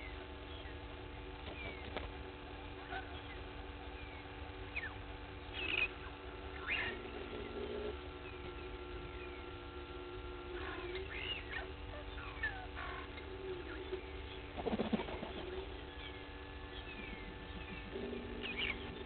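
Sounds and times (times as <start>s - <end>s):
birds whistling: 0.0s - 2.0s, 3.0s - 19.0s
low bird call: 2.9s - 19.0s.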